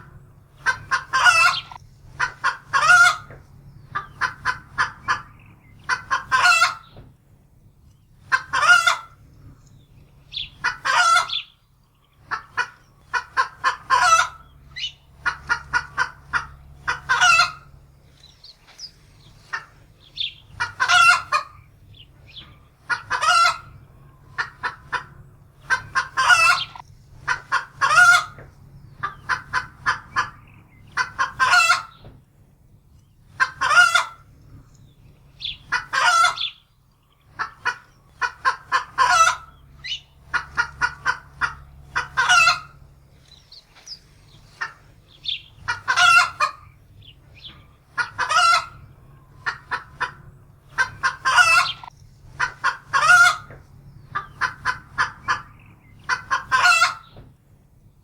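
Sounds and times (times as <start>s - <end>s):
hen cackling: 0.0s - 7.0s, 8.2s - 9.6s, 10.2s - 11.6s, 12.2s - 32.1s, 33.2s - 34.6s, 35.3s - 57.3s.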